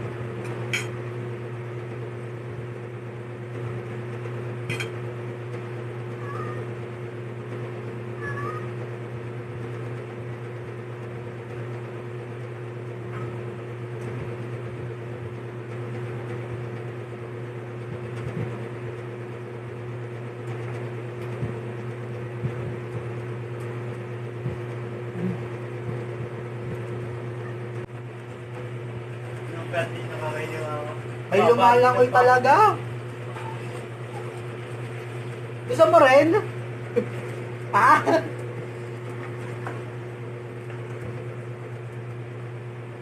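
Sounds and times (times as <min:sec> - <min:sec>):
machine humming: 0:00.0 - 0:43.0.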